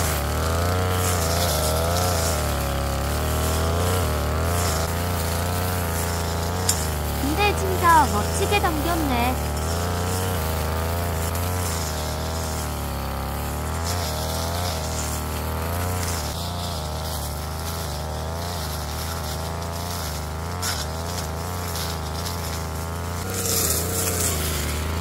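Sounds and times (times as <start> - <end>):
brush cutter engine running: 0.0 - 25.0.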